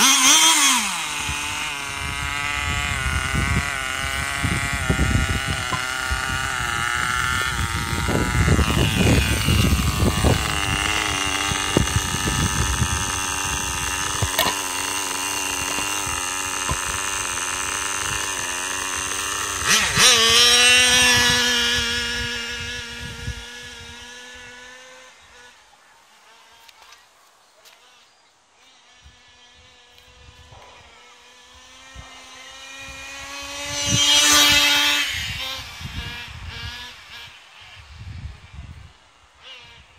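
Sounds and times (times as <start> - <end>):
small nitro engine idling and revving: 0.0 - 39.9.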